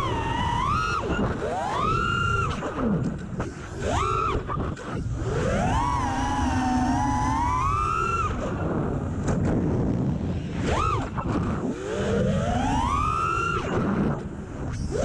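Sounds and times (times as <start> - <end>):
drone motors whining: 0.0 - 9.6, 10.4 - 15.0
wind rush on microphone: 0.0 - 15.0.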